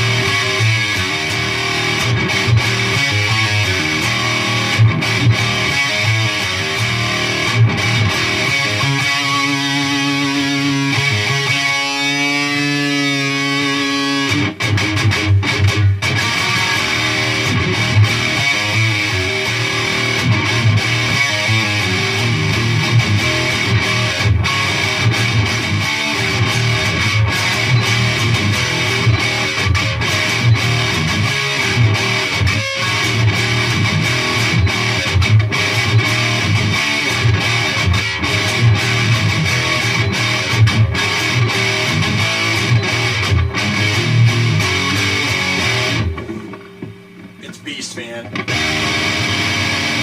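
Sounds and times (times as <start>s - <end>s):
distorted electric guitar riffing: 0.0s - 50.0s.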